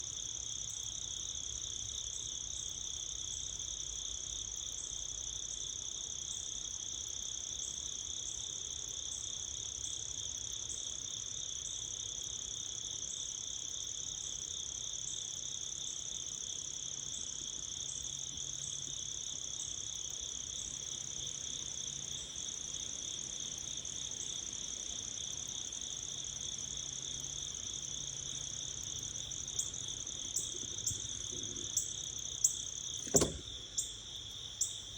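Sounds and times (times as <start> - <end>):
crickets trilling: 0.0 - 34.9.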